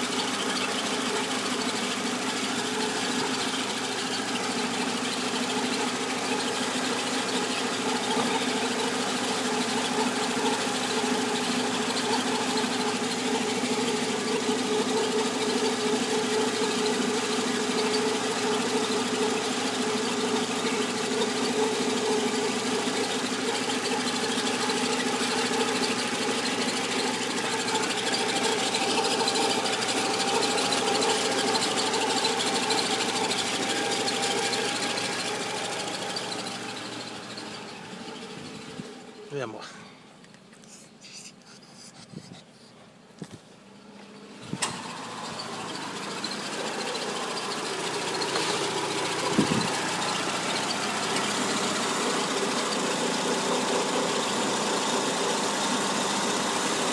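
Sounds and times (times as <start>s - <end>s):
car engine running with hum: 0.0s - 56.9s.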